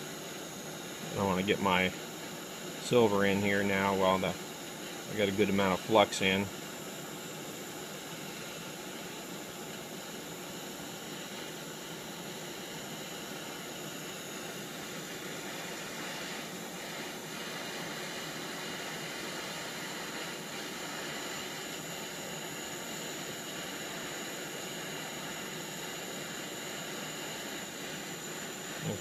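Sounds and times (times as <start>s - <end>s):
gas torch flame hissing: 0.0s - 29.0s.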